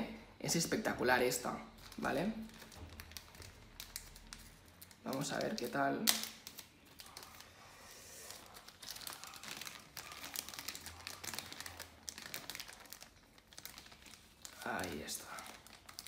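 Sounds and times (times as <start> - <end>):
plastic bag crinkling: 1.3 - 16.0.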